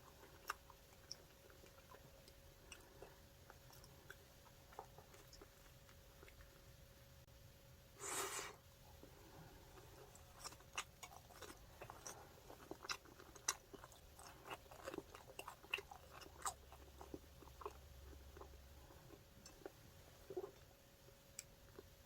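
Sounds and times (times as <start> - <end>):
person chewing food: 0.0 - 6.7, 9.0 - 22.0.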